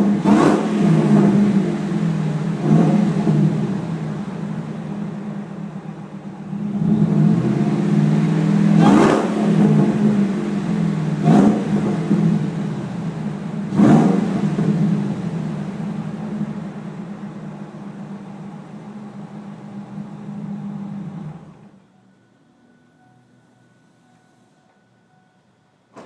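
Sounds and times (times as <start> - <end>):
engine idling and revving: 0.0 - 21.8.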